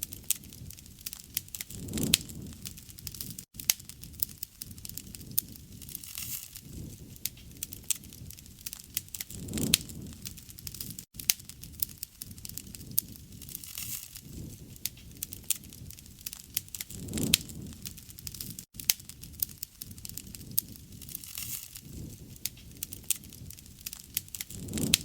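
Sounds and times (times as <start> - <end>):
burning wood crackling and popping: 0.0 - 25.0
fire whoosh: 0.0 - 25.0
low rumble of flames: 0.0 - 25.0.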